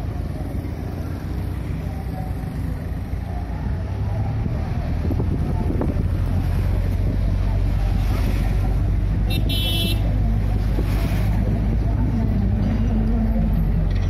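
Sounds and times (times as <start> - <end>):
car driving on dirt road: 0.0 - 14.0.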